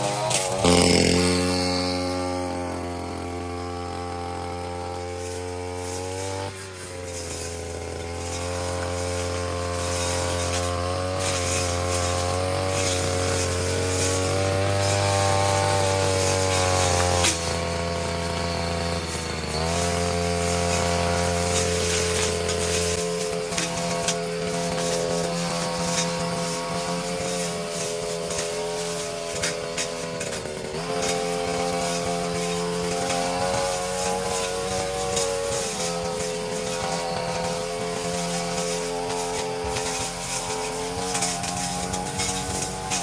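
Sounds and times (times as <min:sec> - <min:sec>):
brush cutter engine running: 0:00.0 - 0:43.0.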